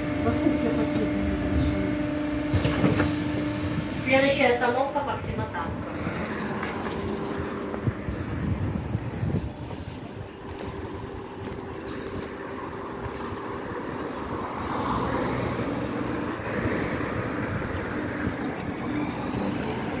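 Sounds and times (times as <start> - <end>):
electric bus humming: 0.0 - 20.0
street traffic: 0.0 - 20.0.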